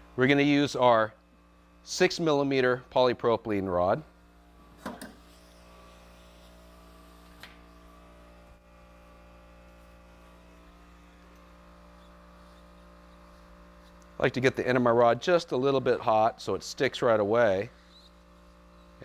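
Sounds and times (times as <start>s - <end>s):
faint electrical machine hum: 0.0s - 19.0s.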